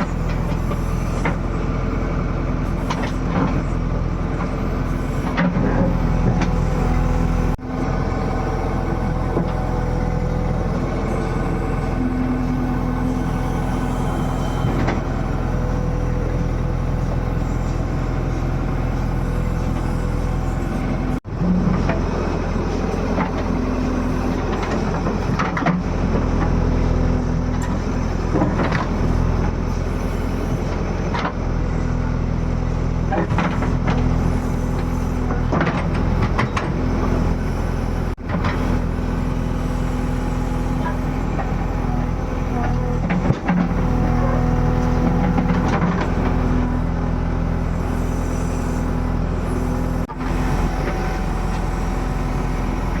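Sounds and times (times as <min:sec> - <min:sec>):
digger engine running: 0:00.0 - 0:53.0.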